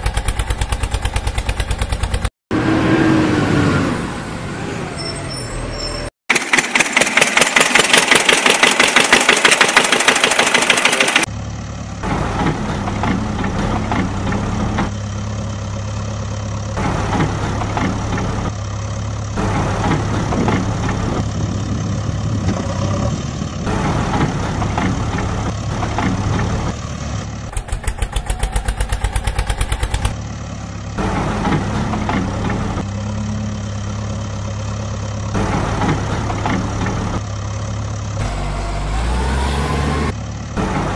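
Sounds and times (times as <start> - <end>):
tractor engine chugging: 0.0 - 2.3, 6.3 - 38.9.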